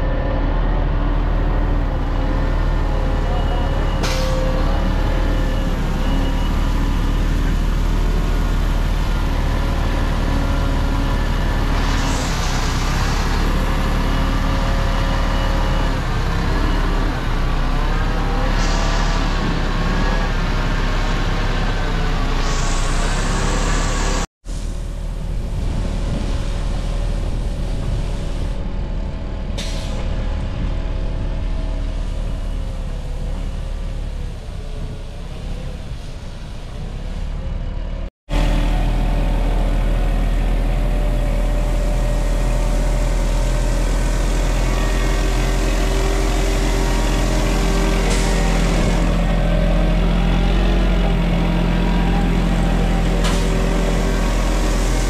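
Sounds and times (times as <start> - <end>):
truck diesel engine running: 0.0 - 35.7, 36.7 - 55.0.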